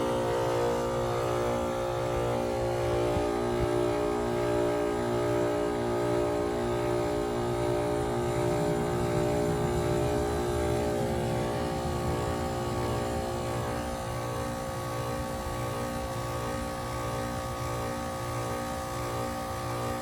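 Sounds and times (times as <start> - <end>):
heat pump humming and rushing: 0.0 - 20.0.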